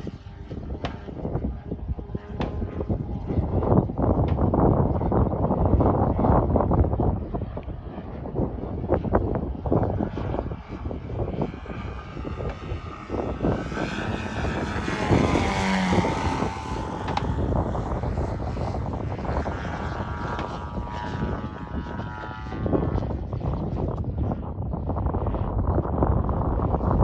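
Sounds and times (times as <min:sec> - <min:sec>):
model plane petrol engine: 0:00.0 - 0:24.4
wind rumbling on microphone: 0:00.0 - 0:27.0.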